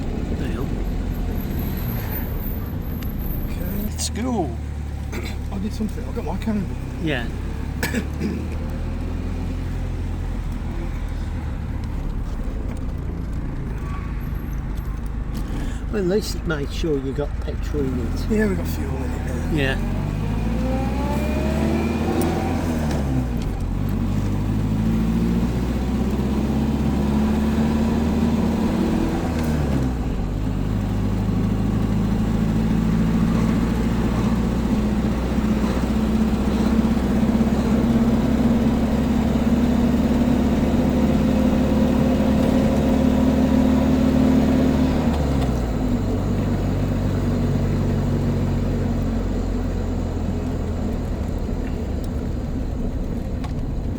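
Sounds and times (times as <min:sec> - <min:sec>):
car engine accelerating: 0:00.0 - 0:53.9
road rumble: 0:00.0 - 0:53.9.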